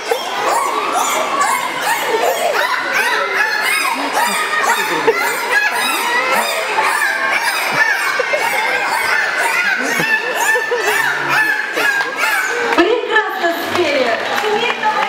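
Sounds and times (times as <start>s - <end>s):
dolphin whistles and squawks: 0.0s - 12.8s.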